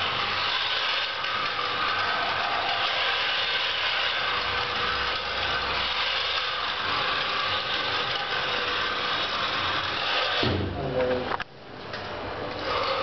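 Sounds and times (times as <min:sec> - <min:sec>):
robot vacuum motors whirring: 0:00.0 - 0:10.6, 0:12.5 - 0:13.0.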